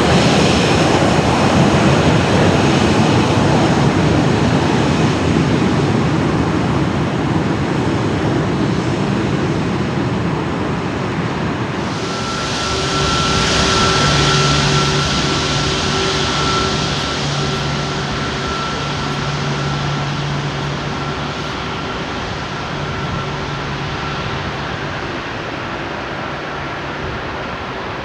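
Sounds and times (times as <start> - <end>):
high jet engine whine: 0.0 - 28.0
jet engines rumbling with hiss: 0.0 - 28.0.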